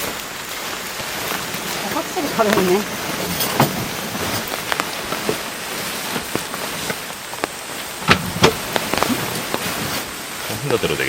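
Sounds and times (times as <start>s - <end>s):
heavy rain pouring: 0.0s - 11.0s
sharp raindrops striking: 0.0s - 11.0s.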